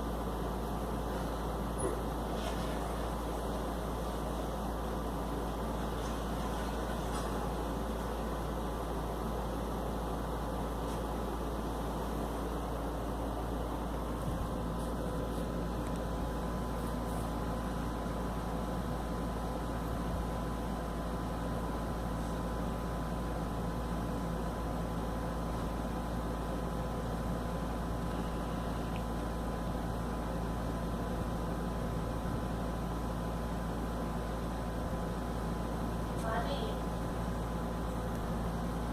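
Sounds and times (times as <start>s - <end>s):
steady hum and hiss: 0.0s - 38.9s.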